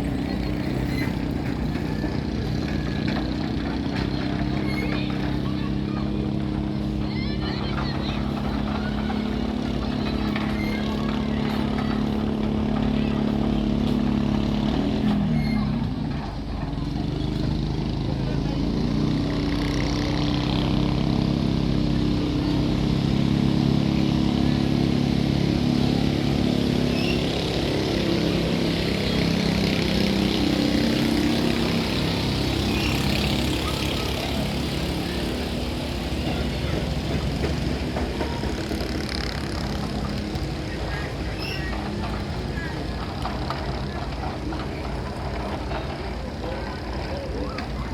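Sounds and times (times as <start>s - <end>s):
engine running: 0.0s - 47.9s.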